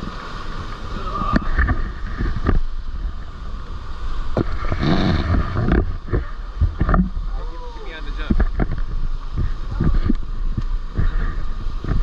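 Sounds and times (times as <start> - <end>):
rushing water: 0.0 - 12.0
wind buffeting microphone: 0.0 - 12.0.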